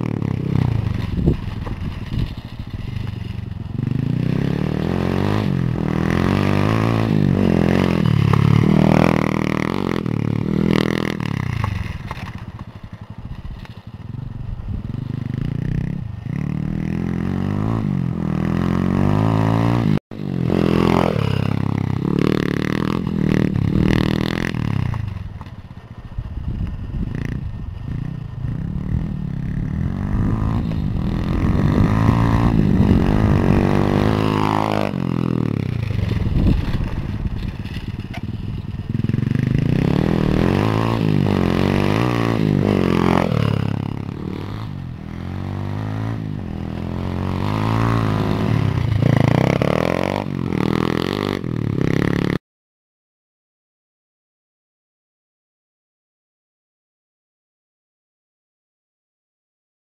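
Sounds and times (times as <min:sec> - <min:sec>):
pit bike engine revving: 0:00.0 - 0:13.3, 0:14.7 - 0:25.3, 0:26.8 - 0:52.4.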